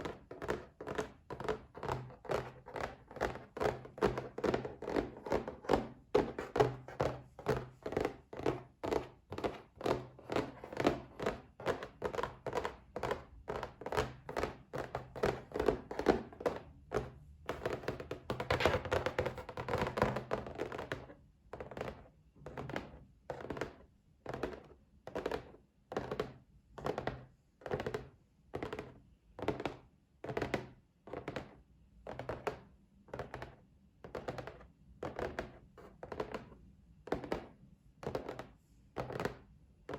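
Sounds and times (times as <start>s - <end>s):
fingers tapping on a box: 0.0s - 39.9s.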